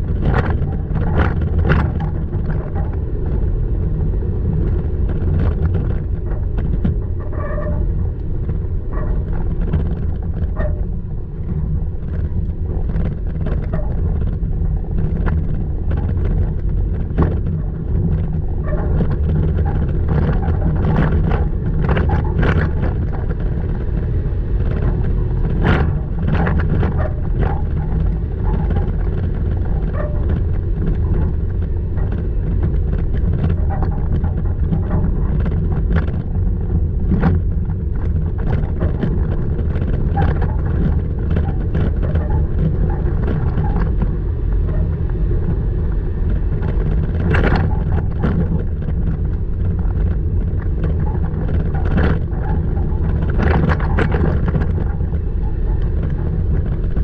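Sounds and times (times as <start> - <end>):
truck engine and tyres rumbling: 0.0 - 57.0
truck rattling and squeaking: 0.0 - 57.0.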